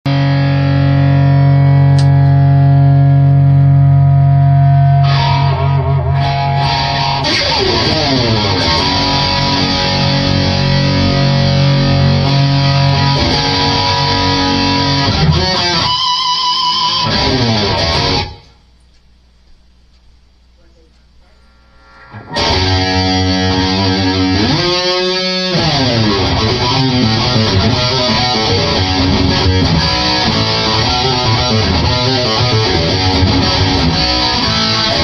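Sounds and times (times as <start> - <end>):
distorted electric guitar: 0.1 - 18.6, 21.0 - 35.0.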